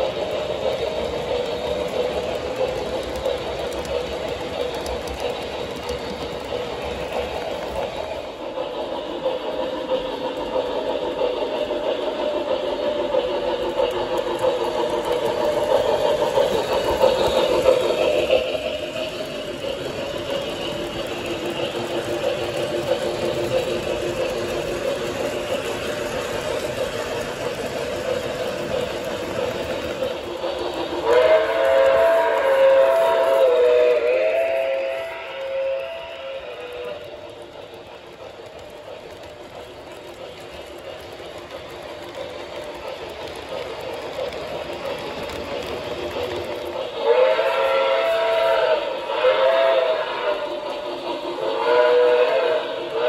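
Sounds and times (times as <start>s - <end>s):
model train wheels rumbling on rails: 0.0s - 53.0s.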